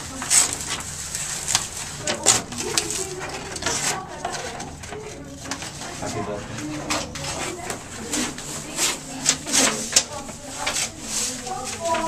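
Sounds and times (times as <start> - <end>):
sandpaper rubbing on wall: 0.0 - 12.0.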